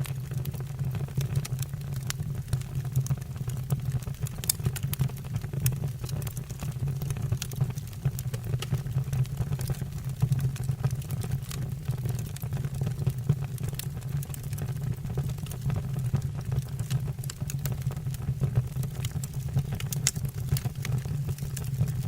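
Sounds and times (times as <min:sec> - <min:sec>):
fire crackling and popping: 0:00.0 - 0:22.0
fire rumbling: 0:00.0 - 0:22.0.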